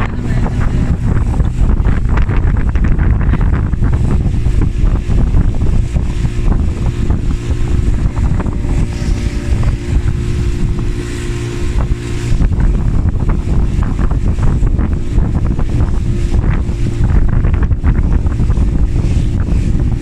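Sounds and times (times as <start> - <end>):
motor droning: 0.0 - 20.0
wind buffeting microphone: 0.0 - 20.0.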